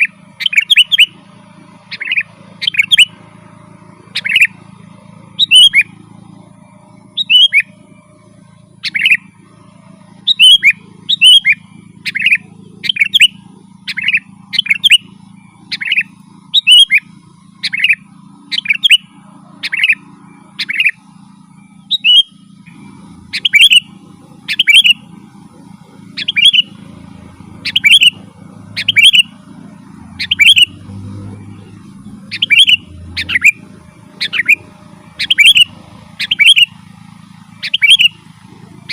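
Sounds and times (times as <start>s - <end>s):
bulbul calling: 0.0s - 38.9s.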